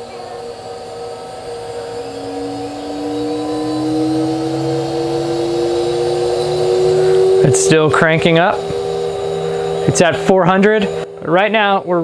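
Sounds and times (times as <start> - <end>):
spindle rising whine: 0.0 - 12.0
steady hum: 0.0 - 12.0.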